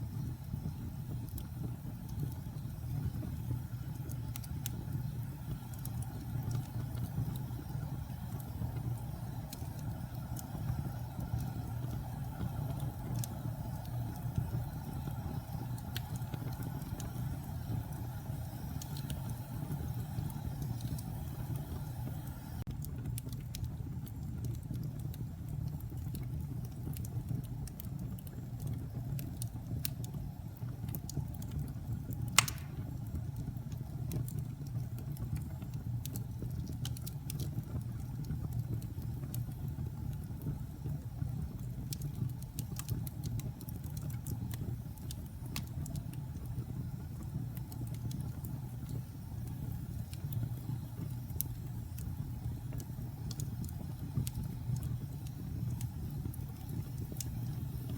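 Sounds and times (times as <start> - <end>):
fire crackling and popping: 0.0 - 57.9
wood fire rumbling: 0.0 - 57.9.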